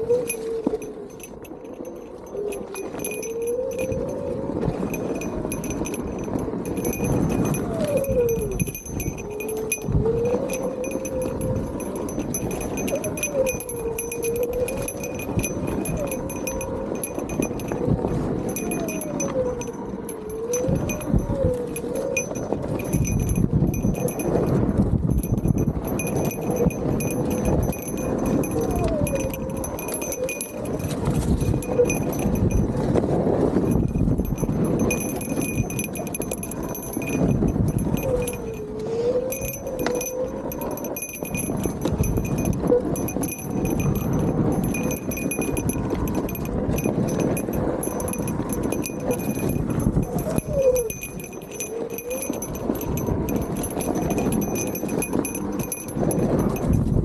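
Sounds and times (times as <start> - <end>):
metallic jingling and rattling: 0.0 - 57.0.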